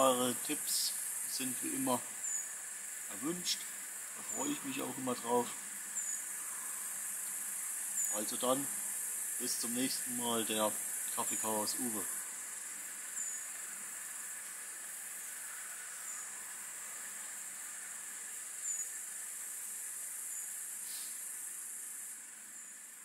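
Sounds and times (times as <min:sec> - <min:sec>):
high-pitched insect hiss: 0:00.0 - 0:23.0.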